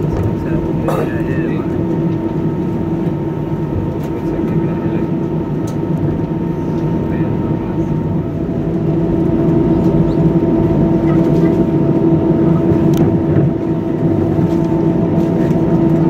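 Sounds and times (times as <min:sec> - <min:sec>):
airliner cabin engine drone: 0:00.0 - 0:16.0.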